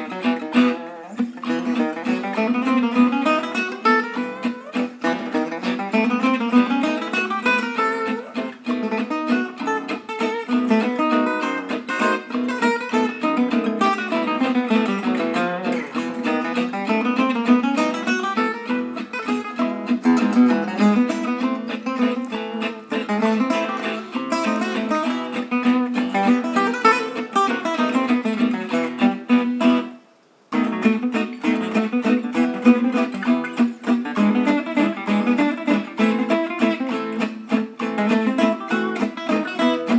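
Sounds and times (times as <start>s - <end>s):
picked acoustic guitar music: 0.0s - 39.9s.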